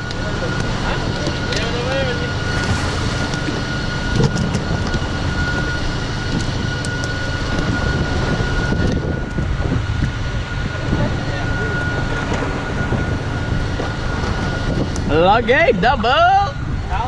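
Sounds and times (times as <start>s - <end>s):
boat engine running: 0.0s - 17.0s
thin steady whine: 0.0s - 17.0s.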